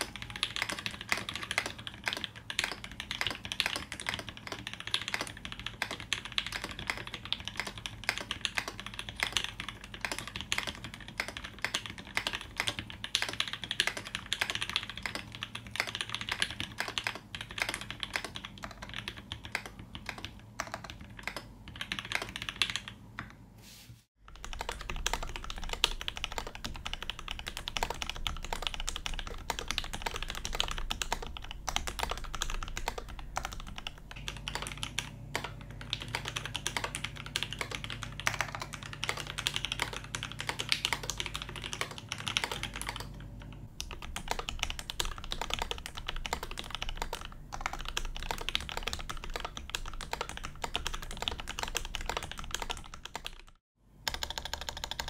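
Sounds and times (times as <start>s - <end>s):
mechanical keyboard typing: 0.0s - 23.4s, 24.2s - 55.0s.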